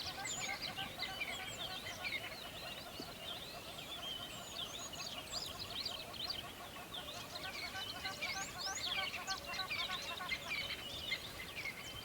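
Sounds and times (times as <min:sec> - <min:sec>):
birds chirping and singing: 0:00.0 - 0:12.0.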